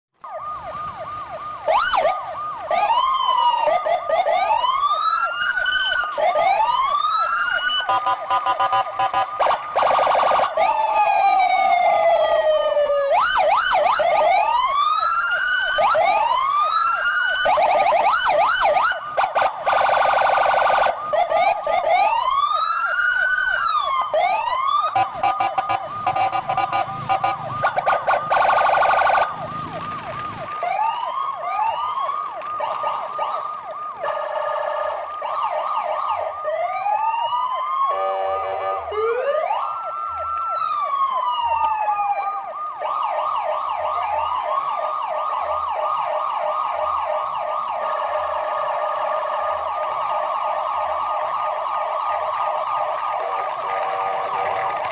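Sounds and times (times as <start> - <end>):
toy siren wails and warbles: 0.2 - 54.9.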